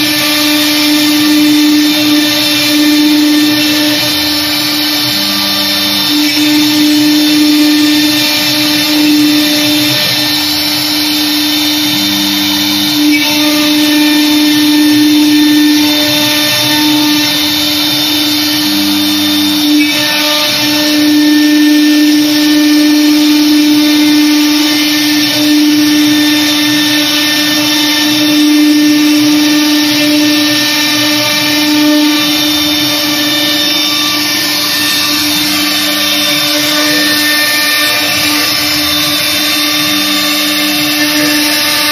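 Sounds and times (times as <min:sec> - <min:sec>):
router bit cutting wood: 0:00.0 - 0:41.9
router spindle whine: 0:00.0 - 0:41.9.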